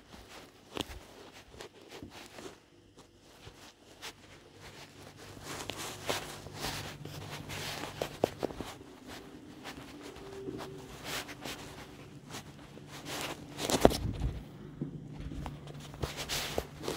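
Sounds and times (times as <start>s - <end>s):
faint steady hum: 0.0s - 16.9s
footsteps scuffing and clicking: 0.0s - 16.9s.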